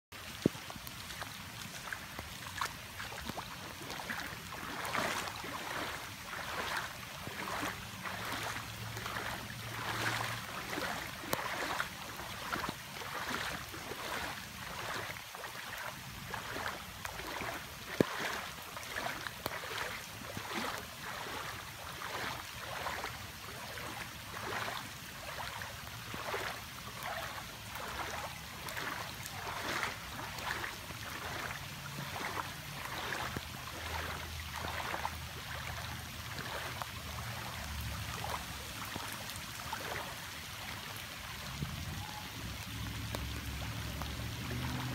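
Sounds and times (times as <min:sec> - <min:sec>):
floodwater rushing and splashing: 0:00.1 - 0:44.9.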